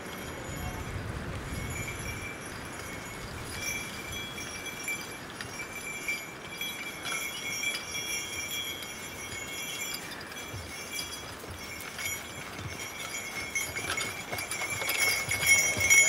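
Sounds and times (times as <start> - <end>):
harness and chains jingling: 0.0 - 16.0
sled moving over snow: 0.0 - 16.0.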